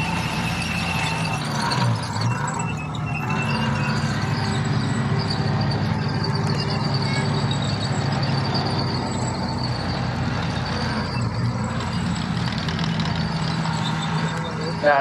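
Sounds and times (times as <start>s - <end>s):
steel tracks rattling over dirt: 0.0s - 15.0s
tracked vehicle engine droning: 0.0s - 15.0s.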